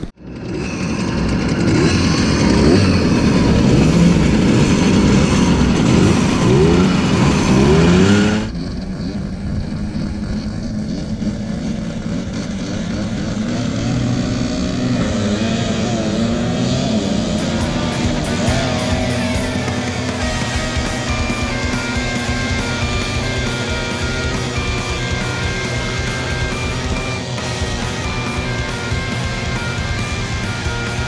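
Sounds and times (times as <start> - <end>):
distant motorcycles droning: 0.0 - 31.0
motorcycle engines idling and revving: 0.0 - 31.0.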